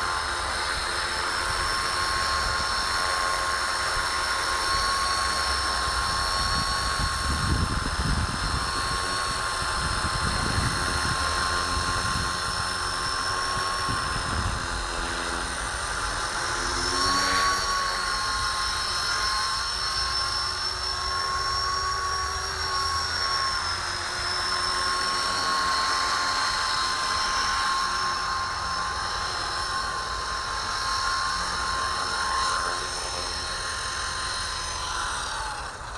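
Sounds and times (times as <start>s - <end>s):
rc helicopter rotors whining: 0.0s - 35.9s.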